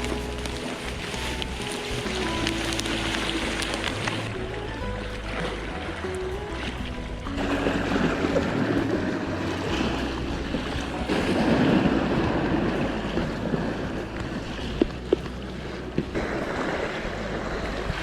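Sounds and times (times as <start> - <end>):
sea waves: 0.0 - 18.0
wind buffeting microphone: 0.0 - 18.0.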